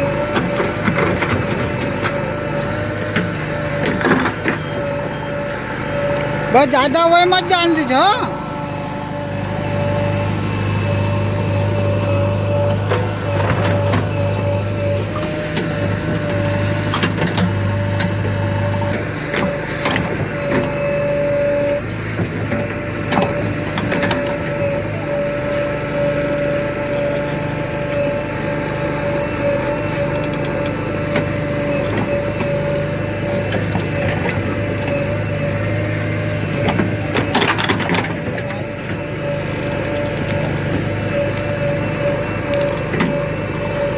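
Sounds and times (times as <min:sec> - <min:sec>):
diesel engine under load: 0:00.0 - 0:43.9
hydraulic whine: 0:00.0 - 0:43.9.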